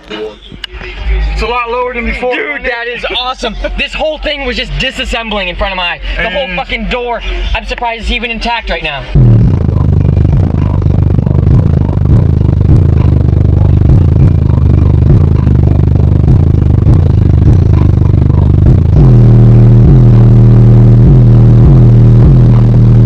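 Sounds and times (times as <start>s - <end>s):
bass-heavy music: 0.0s - 23.0s.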